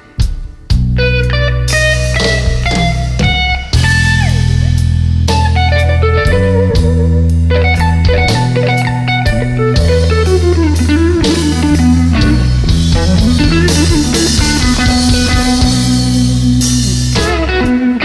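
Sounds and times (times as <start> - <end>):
instrumental blues band: 0.0 - 18.0
sliding guitar melody: 0.0 - 18.0.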